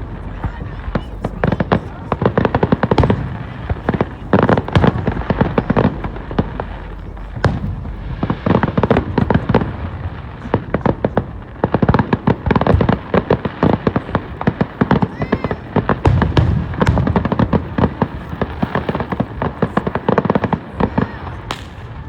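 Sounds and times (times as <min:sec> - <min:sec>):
fireworks popping and banging: 0:00.0 - 0:22.0.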